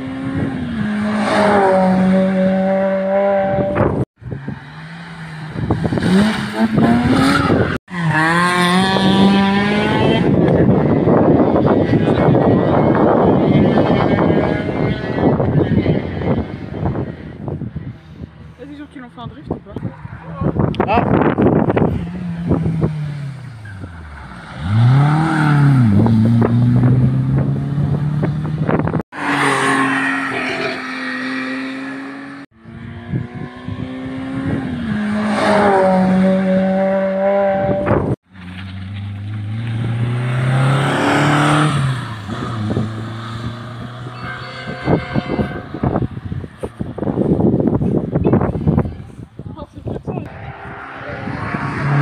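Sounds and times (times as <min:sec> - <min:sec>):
cars accelerating hard: 0:00.0 - 0:17.8, 0:20.1 - 0:48.9, 0:50.2 - 0:52.0
tyre and road noise: 0:00.0 - 0:52.0.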